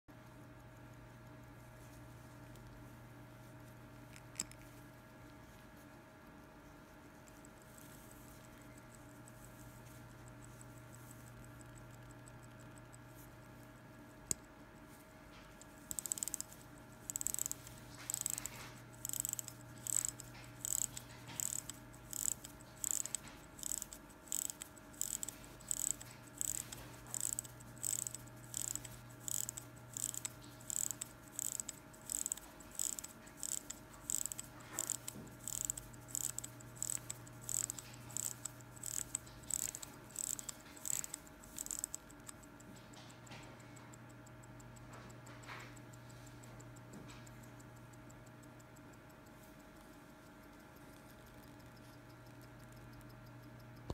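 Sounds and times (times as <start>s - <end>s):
faint steady hum: 0.1s - 53.9s
watch winding ratchet clicks: 7.3s - 13.6s, 14.2s - 53.9s.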